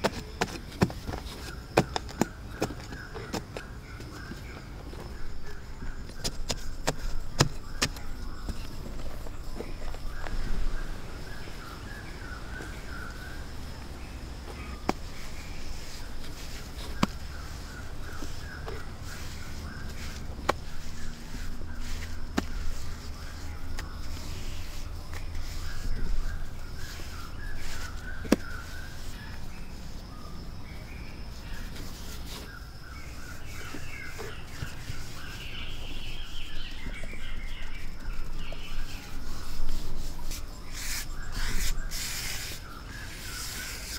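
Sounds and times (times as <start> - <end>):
hands scraping soil: 0.0 - 30.1, 30.9 - 43.9
high insect drone: 0.0 - 43.9
wavering bird calls: 0.0 - 43.9.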